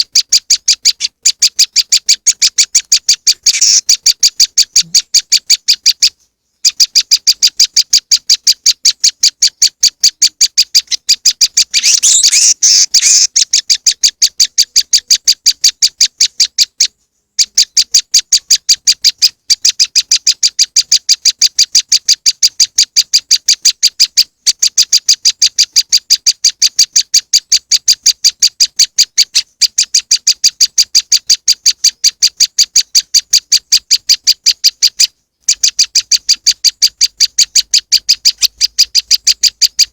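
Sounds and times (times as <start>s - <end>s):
bird chattering burst: 0.0s - 6.0s, 6.7s - 16.8s, 17.4s - 39.9s.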